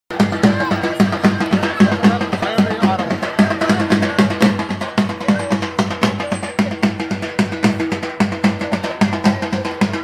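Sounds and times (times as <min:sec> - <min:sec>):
hand drum fast rhythm: 0:00.1 - 0:10.0.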